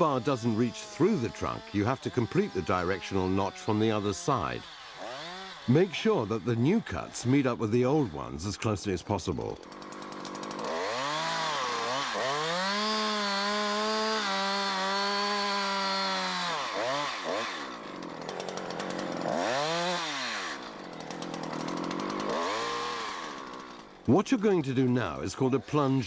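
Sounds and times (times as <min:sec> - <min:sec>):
chainsaw cutting into tree trunk: 0:00.0 - 0:26.0.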